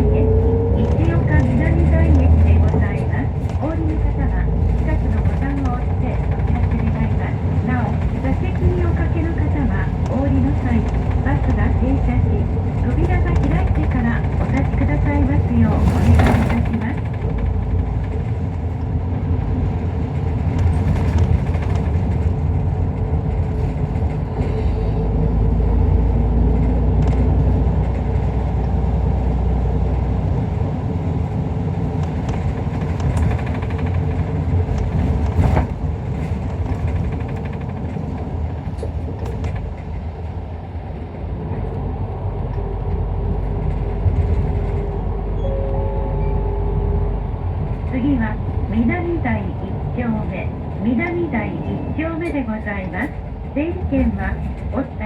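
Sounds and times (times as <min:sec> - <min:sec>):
bus engine and road drone: 0:00.0 - 0:55.0.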